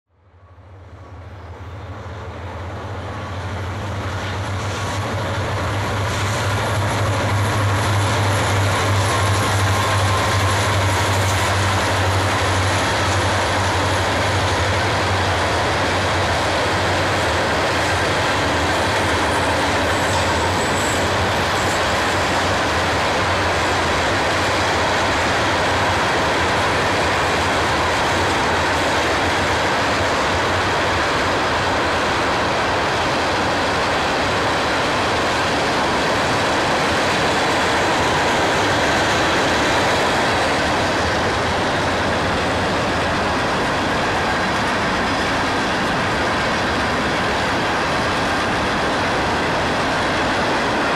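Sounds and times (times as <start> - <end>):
train wheels rolling on rails: 0.4 - 50.9.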